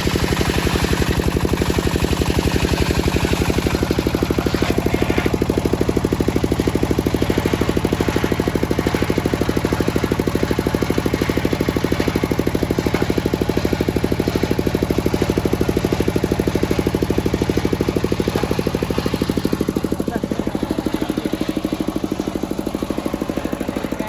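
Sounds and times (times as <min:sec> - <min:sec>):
sawmill engine chugging: 0:00.0 - 0:24.0.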